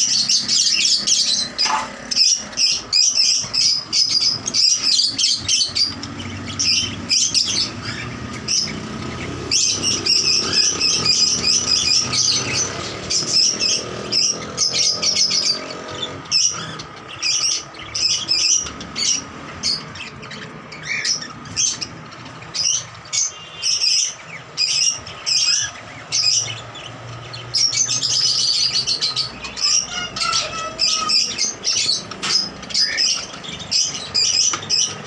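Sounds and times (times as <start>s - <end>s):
parakeets chirping: 0.0s - 35.0s.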